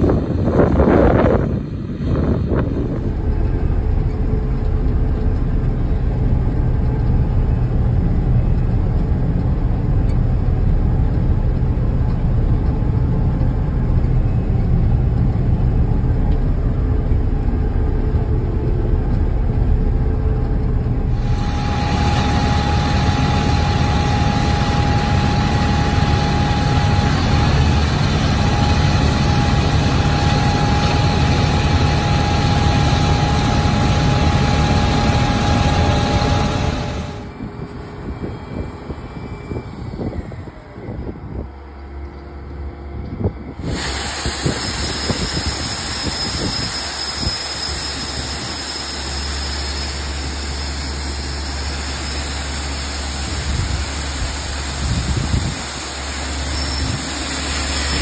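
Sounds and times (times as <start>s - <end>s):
combine harvester engine drone: 0.0s - 58.0s
machine whine: 0.0s - 58.0s.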